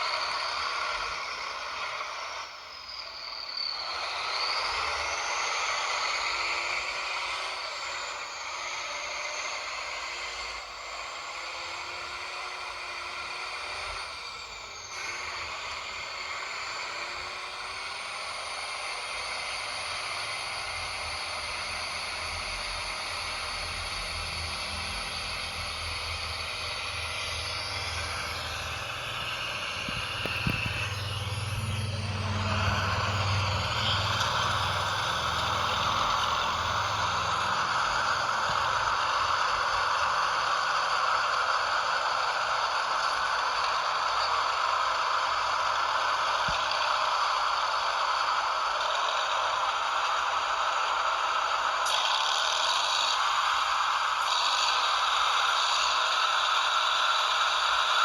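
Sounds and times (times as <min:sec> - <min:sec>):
toy truck motor rattling: 0:00.0 - 0:58.0.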